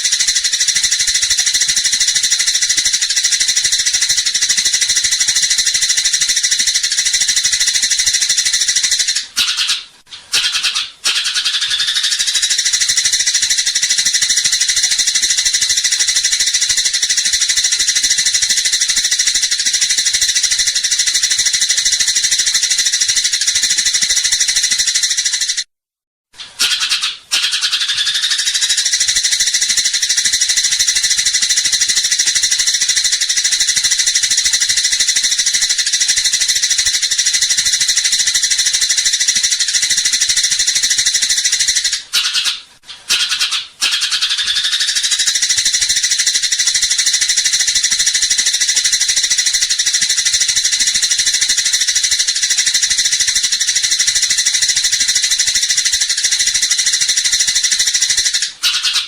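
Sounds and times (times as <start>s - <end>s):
sparrow chattering: 0.0s - 25.7s, 26.6s - 59.0s.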